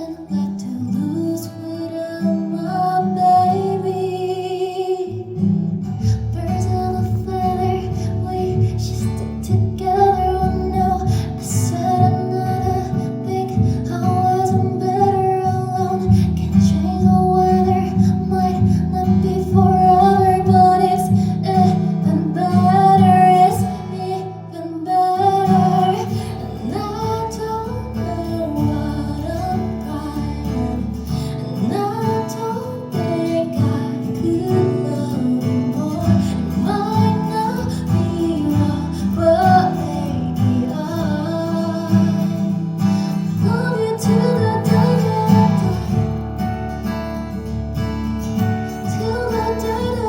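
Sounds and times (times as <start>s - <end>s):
guitar: 0.0s - 50.0s
woman singing: 0.0s - 50.0s.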